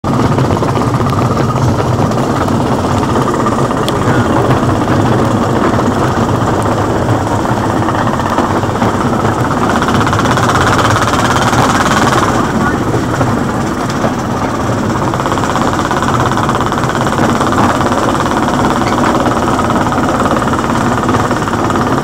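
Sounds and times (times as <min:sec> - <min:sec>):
locomotive engine running: 0:00.0 - 0:22.0
train rattling on track: 0:00.0 - 0:22.0.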